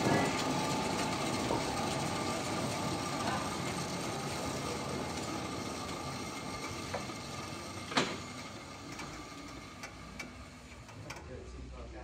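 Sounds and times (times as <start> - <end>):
sawmill machinery running: 0.0 - 11.8.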